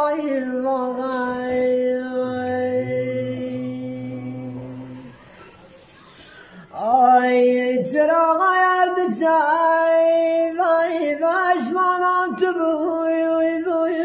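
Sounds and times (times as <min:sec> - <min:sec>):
man singing unaccompanied folk song: 0:00.0 - 0:05.3, 0:06.7 - 0:14.0.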